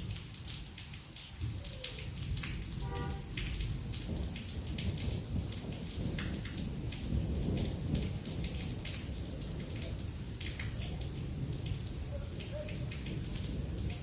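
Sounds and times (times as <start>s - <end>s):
heavy rain pouring: 0.0s - 14.0s
low rumble of thunder: 0.0s - 14.0s
sharp raindrop impacts: 0.0s - 14.0s.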